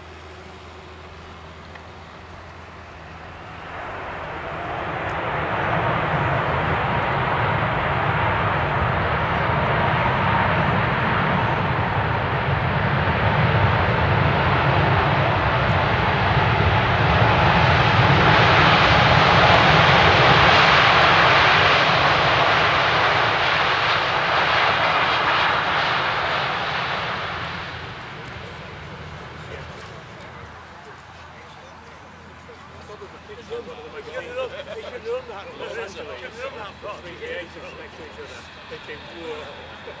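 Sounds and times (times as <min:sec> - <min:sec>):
faint engine whine: 0:00.0 - 0:40.0
jet engines reverse thrust roar: 0:00.0 - 0:40.0.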